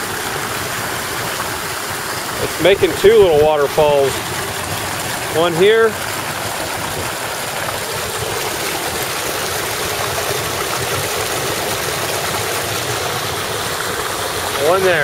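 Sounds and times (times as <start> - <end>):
water rushing over small waterfalls: 0.0 - 15.0.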